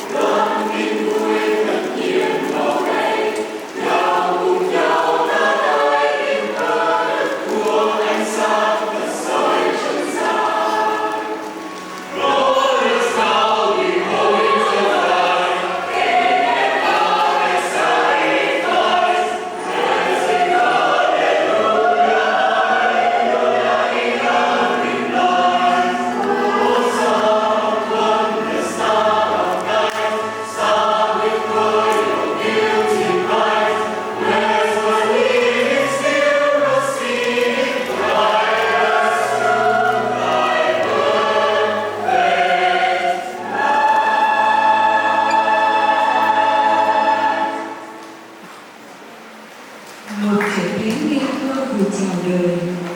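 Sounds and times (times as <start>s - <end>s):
choir singing in harmony: 0.0s - 50.0s.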